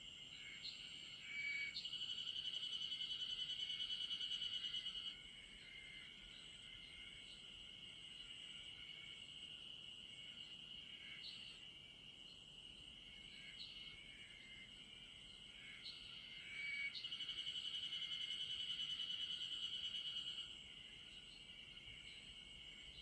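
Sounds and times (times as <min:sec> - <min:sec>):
insect chirps: 0:00.0 - 0:23.0
rapidly pulsing insect song: 0:00.0 - 0:23.0.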